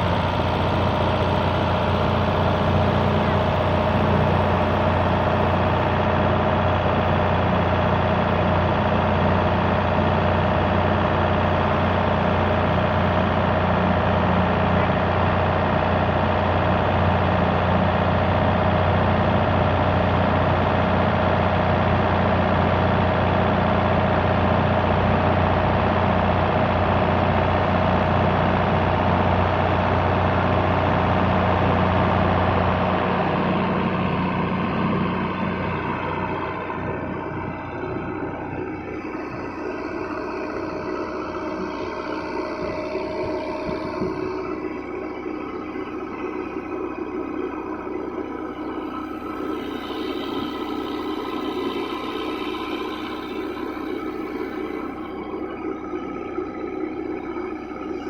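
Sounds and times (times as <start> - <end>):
motorboat engine humming: 0.0 - 58.0.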